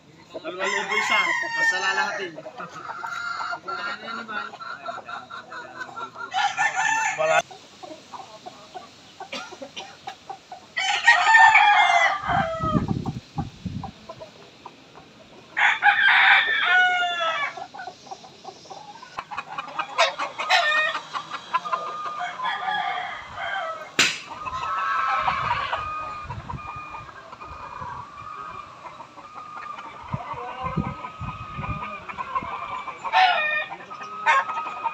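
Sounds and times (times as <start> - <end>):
soft clucking calls: 0.0 - 10.8, 12.6 - 15.8, 16.4 - 34.9
roosters crowing: 0.2 - 34.9.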